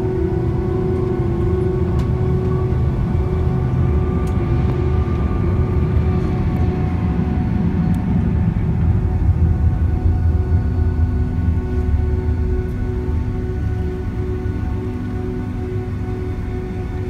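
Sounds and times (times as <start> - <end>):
jet engines whining: 0.0 - 17.0
low cabin rumble: 0.0 - 17.0.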